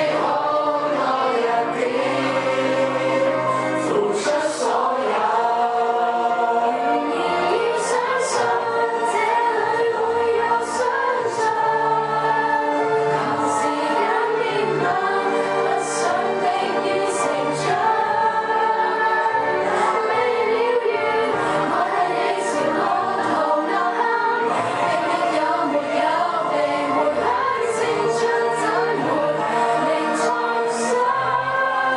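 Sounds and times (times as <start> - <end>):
women singing together: 0.0 - 31.9.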